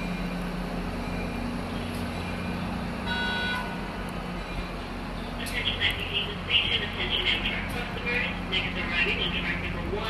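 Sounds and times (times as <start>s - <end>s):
diesel locomotive drone: 0.0s - 10.0s.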